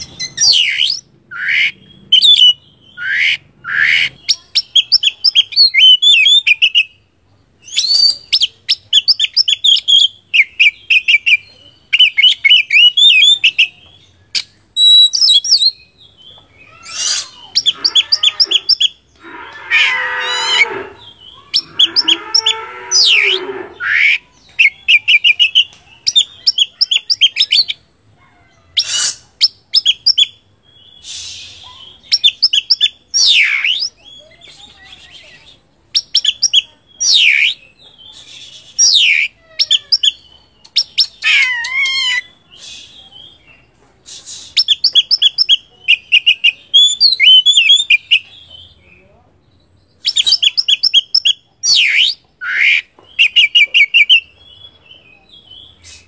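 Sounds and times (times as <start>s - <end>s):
magpie-robin singing: 0.0s - 19.0s, 19.8s - 27.9s, 28.5s - 56.0s.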